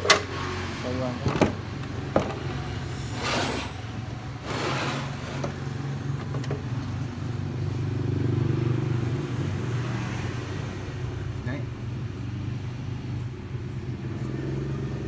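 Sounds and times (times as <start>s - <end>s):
traffic engine hum: 0.0s - 15.0s.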